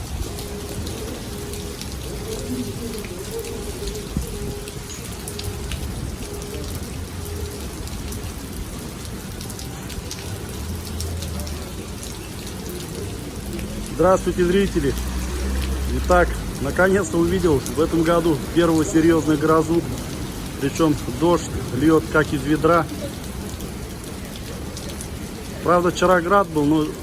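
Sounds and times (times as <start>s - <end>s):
heavy rain downpour: 0.0s - 27.0s.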